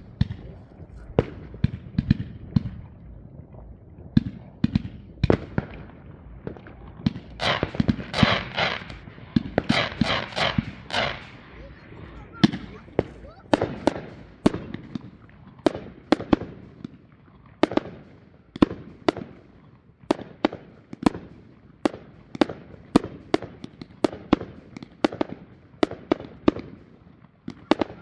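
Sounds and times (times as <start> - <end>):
fireworks bangs echoing: 0.0 - 28.0.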